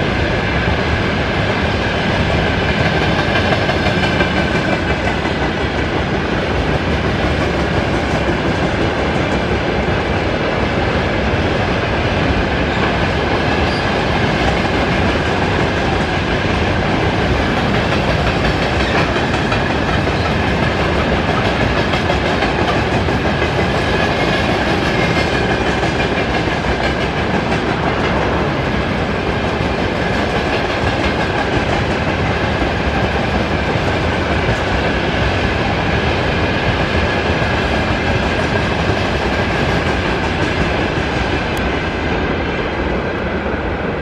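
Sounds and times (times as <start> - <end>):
train wheels rumbling and rattling: 0.0 - 44.0.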